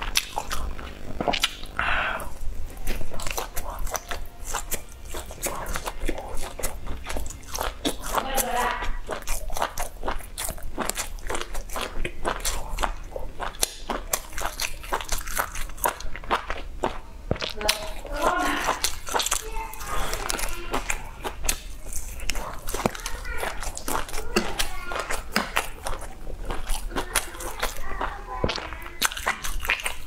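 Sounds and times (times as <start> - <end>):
biting and chewing meat: 0.0 - 30.0.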